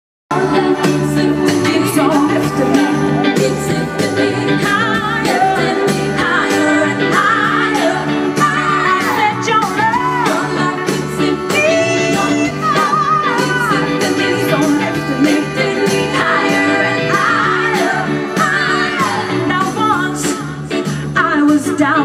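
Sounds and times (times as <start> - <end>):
drums steady beat: 0.3 - 20.5
soul band playing: 0.3 - 22.0
woman singing: 0.3 - 22.0.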